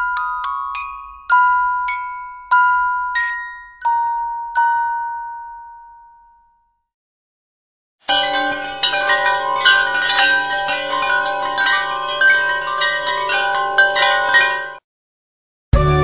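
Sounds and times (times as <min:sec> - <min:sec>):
chime-like ringing music: 0:00.0 - 0:06.8, 0:08.1 - 0:14.8.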